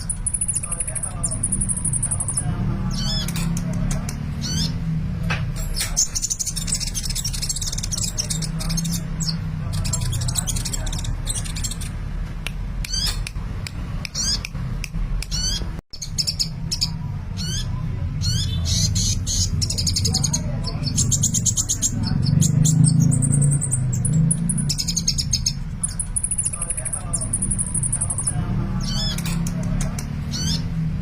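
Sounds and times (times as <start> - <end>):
sunbird chirping and trilling: 0.0 - 5.0, 5.6 - 12.0, 14.0 - 14.5, 15.2 - 30.9.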